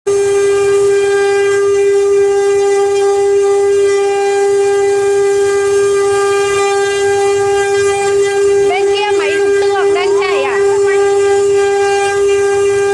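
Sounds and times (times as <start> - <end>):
router spindle whine: 0.1 - 12.9.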